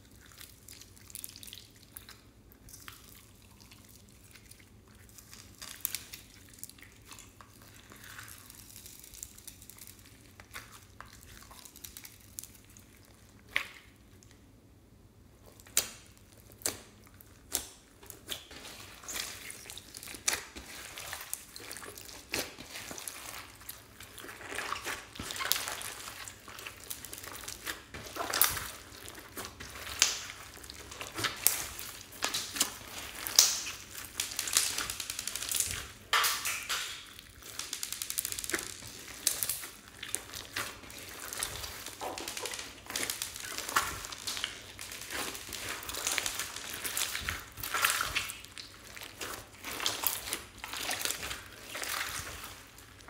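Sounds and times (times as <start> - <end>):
slime squishing by hand: 0.0 - 14.5, 15.3 - 53.0
sticky crackles and pops: 7.1 - 14.4, 15.5 - 53.0.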